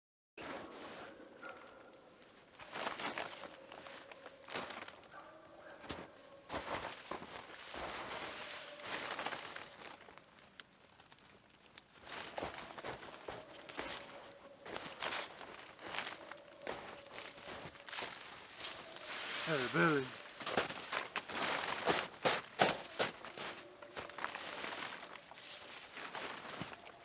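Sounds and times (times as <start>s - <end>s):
crunching and rustling: 0.4s - 27.0s.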